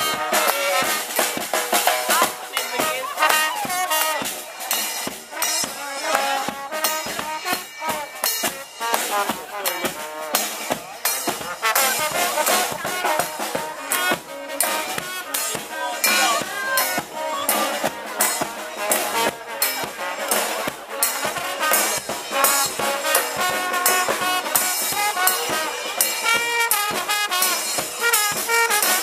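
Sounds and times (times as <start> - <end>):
brass band playing: 0.0 - 29.0
steady drumbeat: 0.0 - 29.0.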